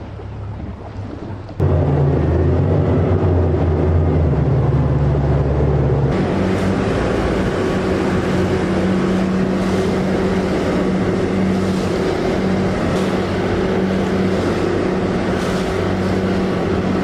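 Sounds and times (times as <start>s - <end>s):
boat engine hum: 0.0s - 17.0s
wind and water rushing: 0.0s - 17.0s.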